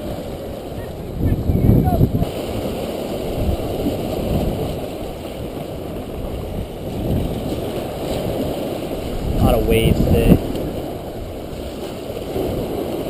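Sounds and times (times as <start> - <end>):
waves washing against rocks: 0.0 - 13.0
wind buffeting microphone: 0.0 - 13.0.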